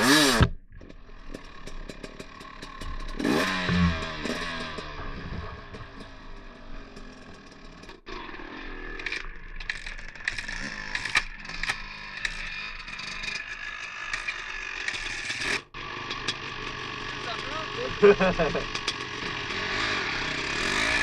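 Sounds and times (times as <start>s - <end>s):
dirt bike clattering over rough ground: 0.2s - 8.2s, 9.0s - 21.0s.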